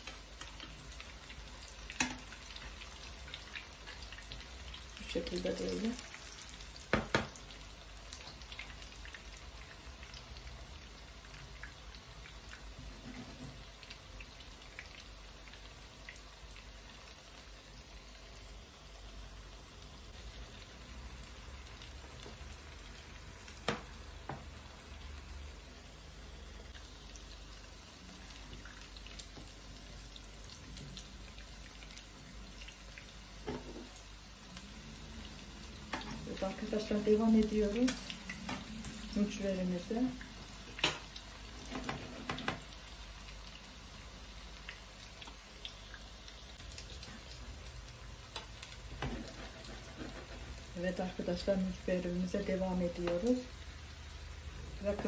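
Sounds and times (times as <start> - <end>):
fritters frying in oil: 0.0 - 55.0.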